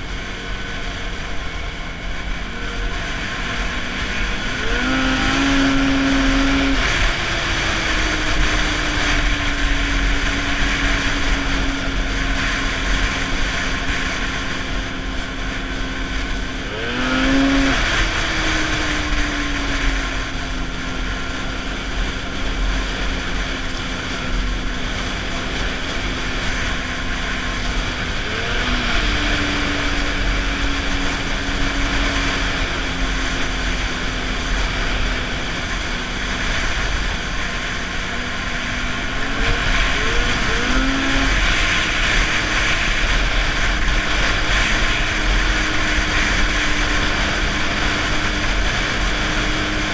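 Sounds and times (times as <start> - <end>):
snowmobile engine revving: 0.0 - 49.9
steady rushing noise: 0.0 - 49.9.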